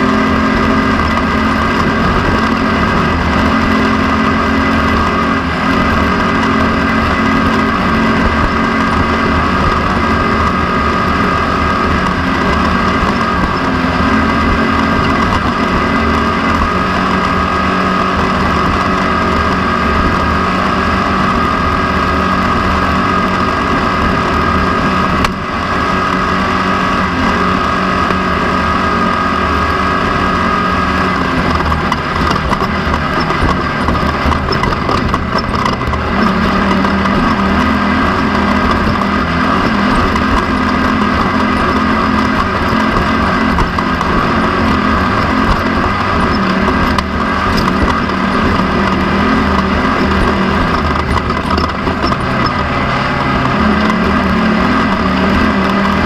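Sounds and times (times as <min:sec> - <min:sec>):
race vehicle engine running hard: 0:00.0 - 0:56.0.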